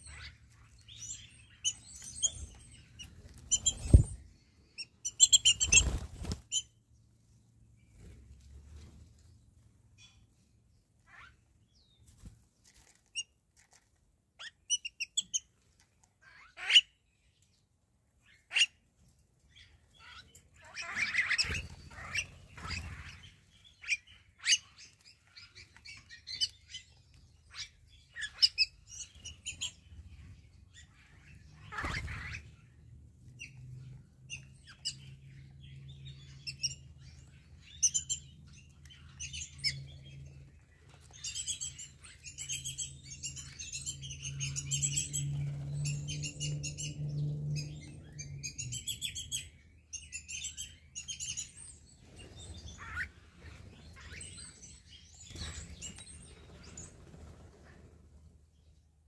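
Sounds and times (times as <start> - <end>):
birds chirping and calling: 0.0 - 6.8, 14.4 - 17.6, 18.2 - 58.8.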